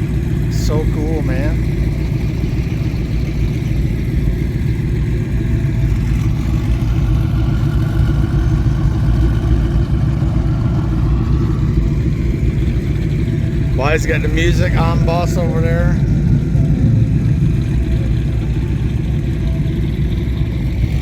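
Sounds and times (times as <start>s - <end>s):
powerboat engines idling: 0.0s - 21.0s.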